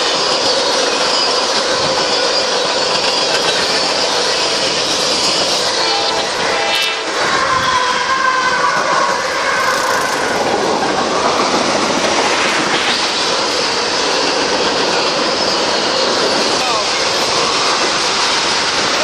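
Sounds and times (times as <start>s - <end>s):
freight train passing: 0.0s - 19.0s
wheels clacking over rail joints: 0.0s - 19.0s.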